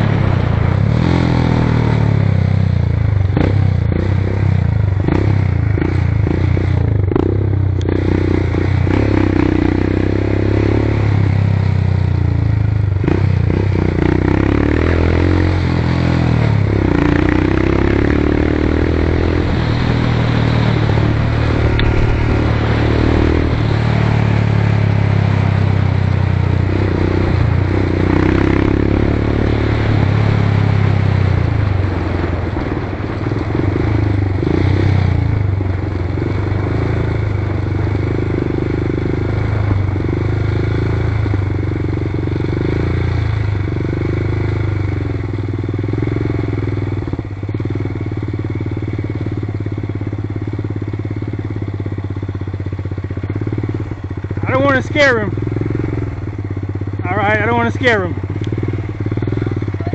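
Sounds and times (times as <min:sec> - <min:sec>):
off-road motorcycle engine: 0:00.0 - 0:59.9.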